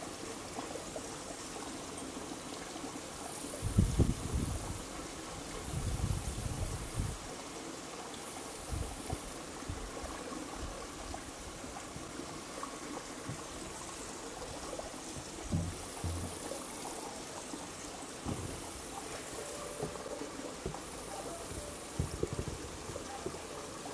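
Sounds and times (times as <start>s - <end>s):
steady outdoor hiss: 0.0s - 23.9s.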